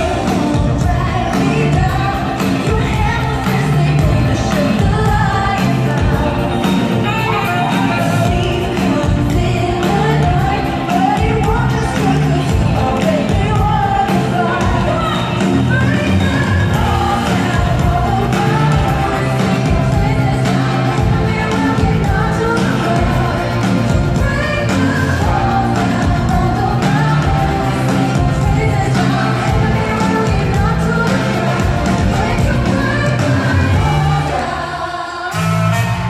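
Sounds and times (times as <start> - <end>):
woman singing: 0.0 - 35.4
worship band playing: 0.0 - 36.0.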